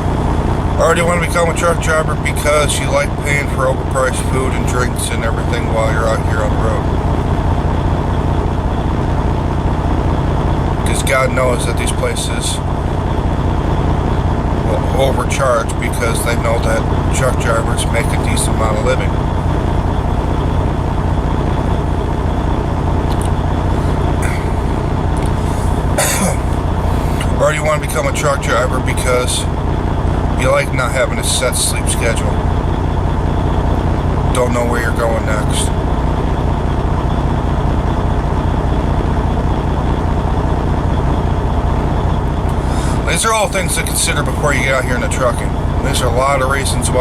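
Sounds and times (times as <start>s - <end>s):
semi truck engine rumble: 0.0s - 47.0s.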